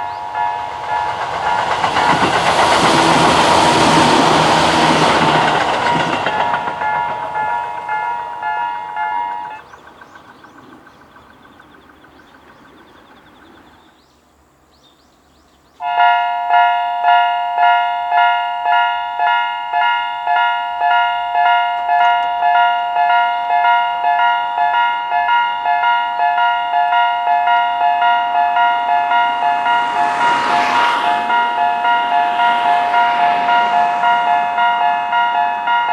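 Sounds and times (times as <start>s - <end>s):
level crossing warning bells: 0.0s - 9.9s, 15.8s - 35.9s.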